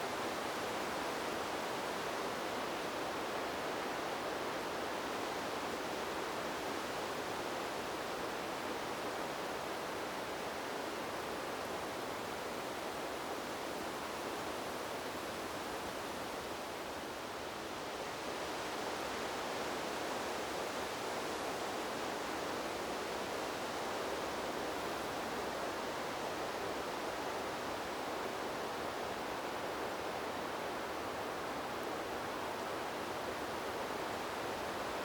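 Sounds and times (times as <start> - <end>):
wind blowing through trees: 0.0 - 35.0.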